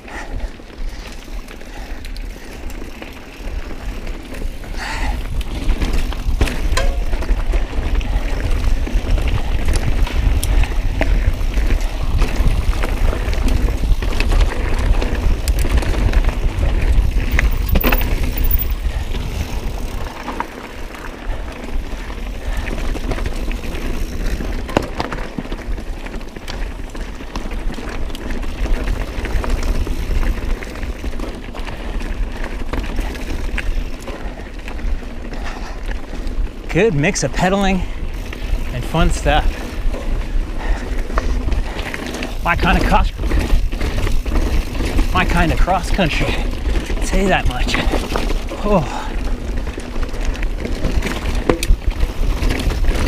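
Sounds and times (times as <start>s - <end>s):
bike chain and frame rattling: 0.0s - 53.0s
bike tyres rumbling on rock: 0.0s - 53.0s.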